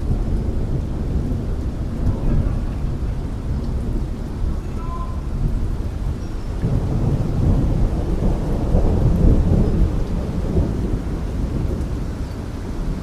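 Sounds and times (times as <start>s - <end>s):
rain: 0.0s - 13.0s
rolling thunder: 0.0s - 13.0s.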